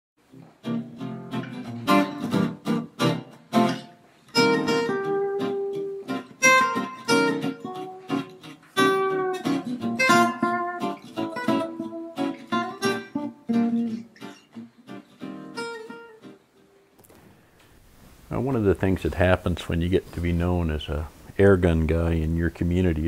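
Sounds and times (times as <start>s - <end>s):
acoustic guitar music: 0.2s - 23.0s.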